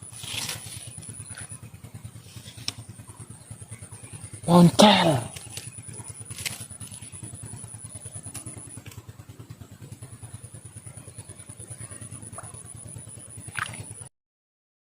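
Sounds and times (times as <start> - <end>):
small engine idling: 0.0 - 14.1.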